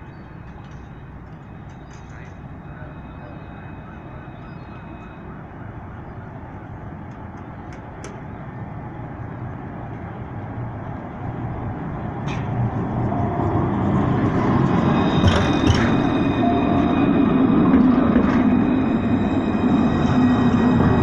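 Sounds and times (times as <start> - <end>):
tram rumbling and humming: 0.0 - 21.0.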